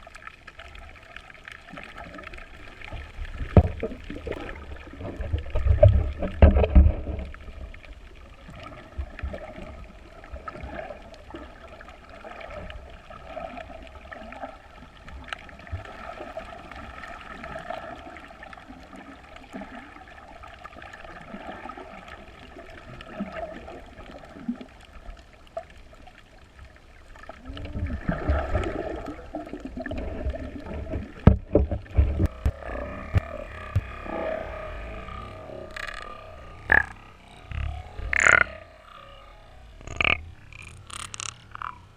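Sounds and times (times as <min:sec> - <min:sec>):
water sloshing and gurgling: 0:00.0 - 0:41.9.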